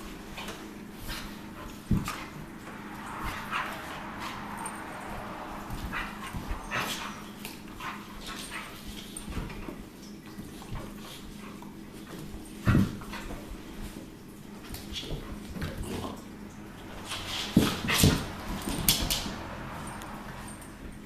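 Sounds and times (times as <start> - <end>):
dogs scuffling and claws clicking: 0.0 - 21.0.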